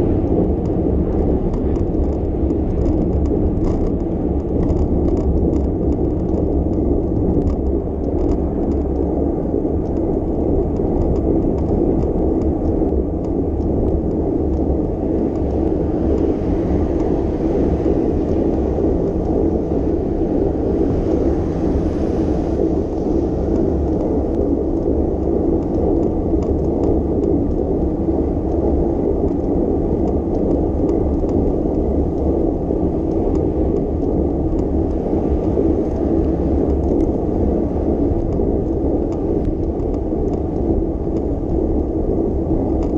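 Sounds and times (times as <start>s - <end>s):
bicycle road noise: 0.0s - 42.9s
wind on microphone: 0.0s - 42.9s.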